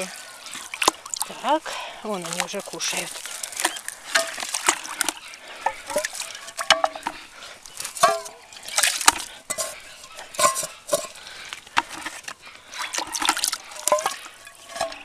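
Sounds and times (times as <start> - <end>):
ducks pecking and dabbling: 0.0 - 15.0
water sloshing: 0.0 - 15.0.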